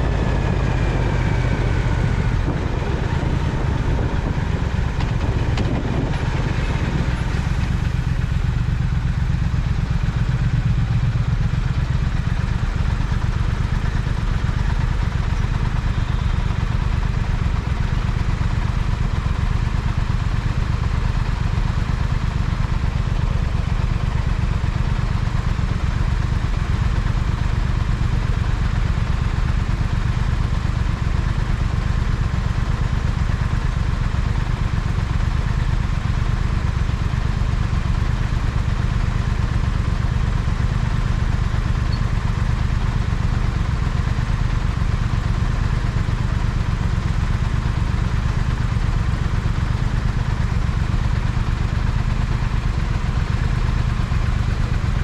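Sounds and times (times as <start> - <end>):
motorcycle engine running steadily: 0.0 - 55.0.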